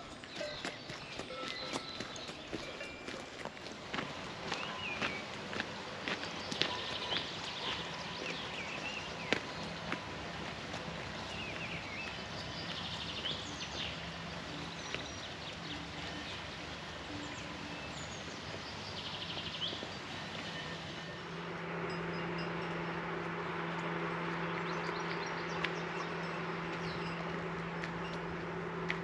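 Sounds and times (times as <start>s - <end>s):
birds chirping and trilling: 0.0s - 28.9s
steady engine hum: 0.0s - 29.0s.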